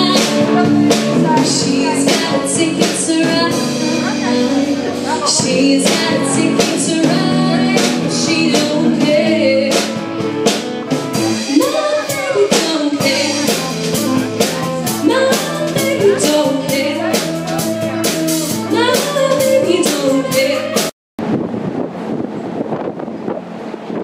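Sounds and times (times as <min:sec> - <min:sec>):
woman singing: 0:00.0 - 0:10.1, 0:11.4 - 0:20.9
drum kit beat: 0:00.0 - 0:20.9
electric guitar: 0:00.0 - 0:20.9
bass guitar: 0:00.0 - 0:24.0.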